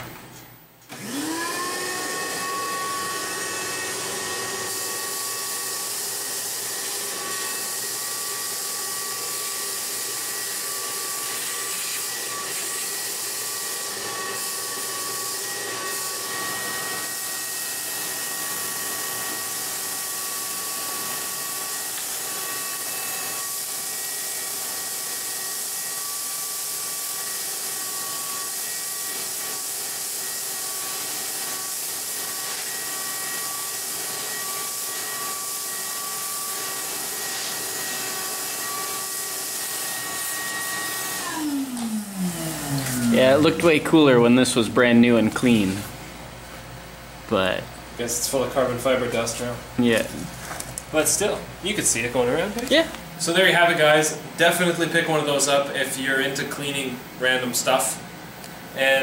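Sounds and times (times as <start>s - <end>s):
vacuum motor whine: 0.9s - 55.4s.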